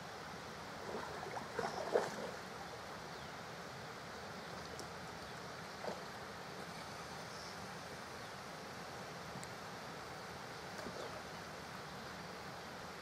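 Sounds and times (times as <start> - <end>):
flowing water: 0.0 - 13.0
wind: 0.0 - 13.0.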